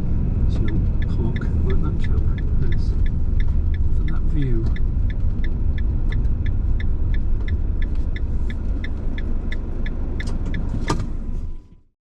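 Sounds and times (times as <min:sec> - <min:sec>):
road and engine rumble: 0:00.0 - 0:11.9
turn indicator ticking: 0:00.5 - 0:11.2.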